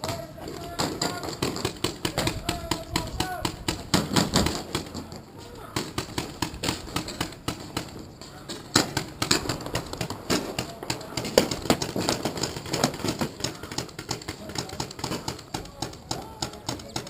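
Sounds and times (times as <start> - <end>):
paintball markers firing: 0.0 - 17.0.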